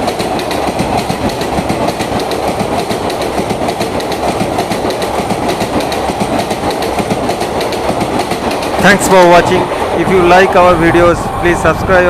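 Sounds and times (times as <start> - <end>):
train wheels clattering over joints: 0.0 - 11.1.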